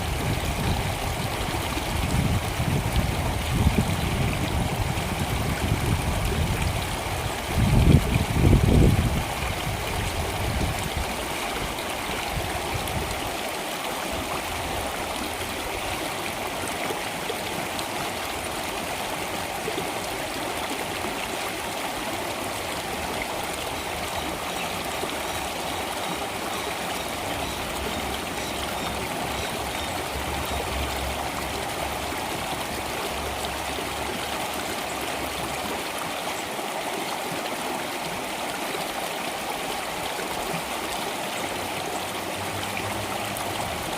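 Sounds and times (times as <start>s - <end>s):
stream water flowing: 0.0s - 43.9s.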